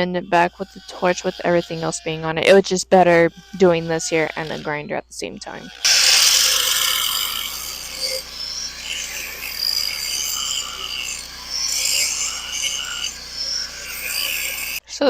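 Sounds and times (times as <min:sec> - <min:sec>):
angle grinder grinding steel: 0:00.0 - 0:14.8.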